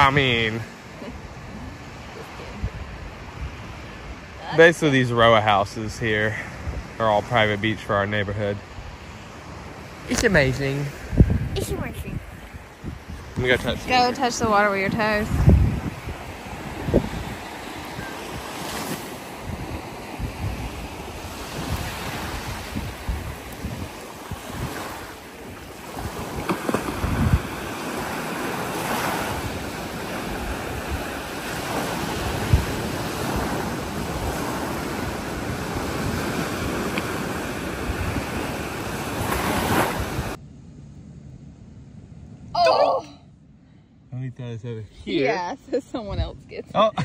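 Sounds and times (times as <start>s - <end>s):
small waves breaking on sand: 0.0s - 40.4s
wind buffeting microphone: 0.0s - 40.4s, 44.9s - 47.0s.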